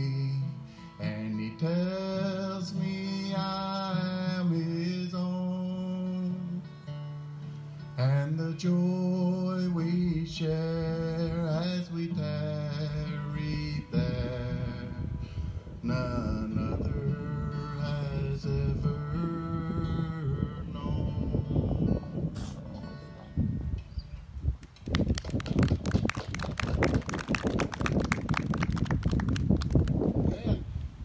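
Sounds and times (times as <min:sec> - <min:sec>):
acoustic guitar: 0:00.0 - 0:24.9.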